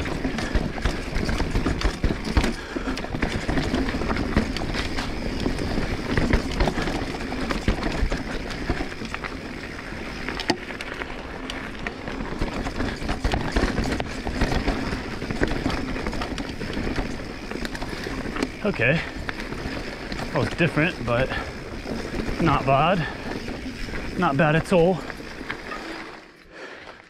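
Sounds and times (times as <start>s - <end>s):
bike clicking and rattling: 0.0s - 27.0s
tyres rolling over dirt and rock: 0.0s - 27.0s.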